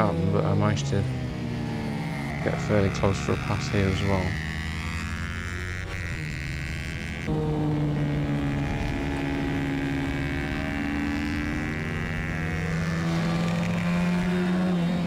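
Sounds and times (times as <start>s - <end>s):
minibike engine running hard: 0.0s - 15.0s.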